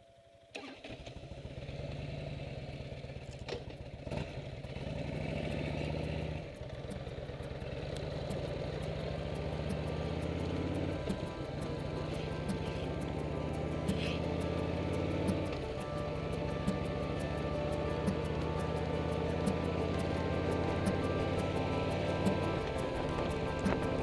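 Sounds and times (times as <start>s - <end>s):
motorcycle engine running: 1.2s - 24.0s.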